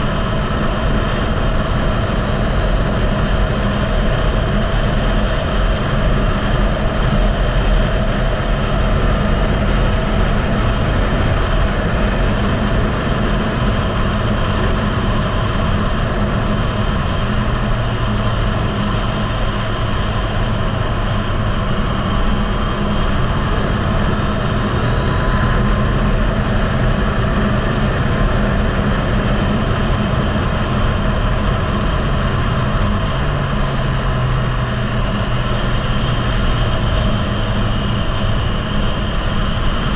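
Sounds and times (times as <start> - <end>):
motorcycle engine running hard: 0.0 - 39.9
wind buffeting microphone: 0.0 - 39.9.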